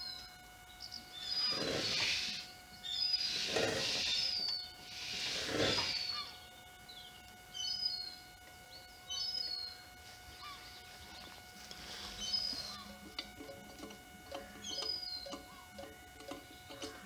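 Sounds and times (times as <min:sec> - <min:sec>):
faint steady hum: 0:00.0 - 0:17.0
small birds chirping: 0:00.0 - 0:17.0.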